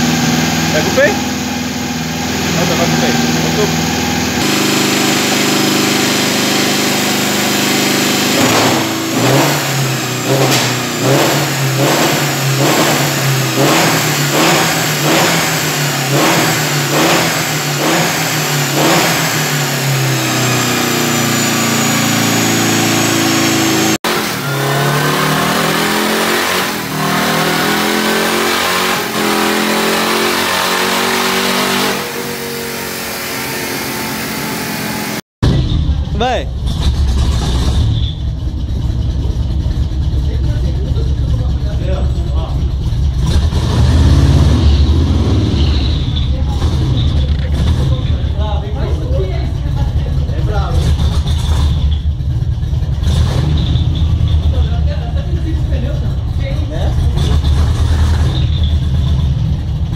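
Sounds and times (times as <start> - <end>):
engine revving: 0.0 - 59.9
motorcycle engine revving: 0.0 - 59.9.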